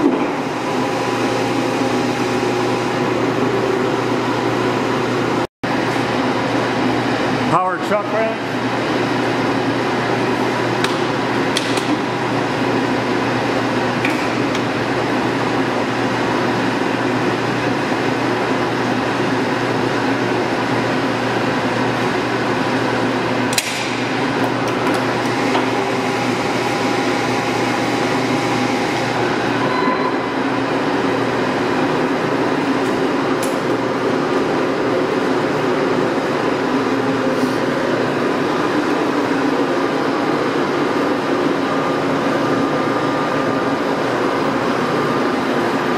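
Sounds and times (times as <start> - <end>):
lathe humming and whining: 0.0 - 45.9.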